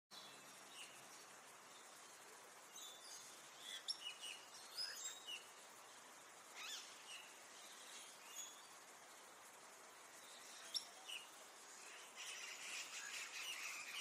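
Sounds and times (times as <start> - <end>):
faint steady hiss: 0.1 - 14.0.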